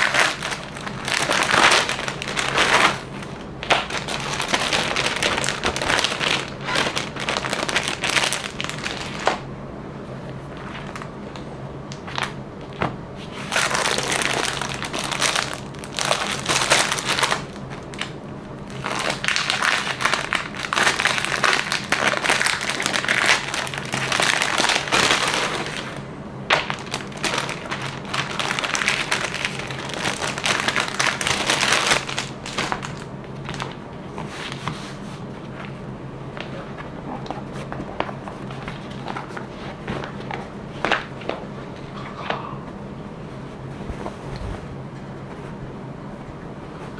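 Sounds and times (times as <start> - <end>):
plastic packaging crinkling: 0.0 - 9.5, 10.4 - 42.0.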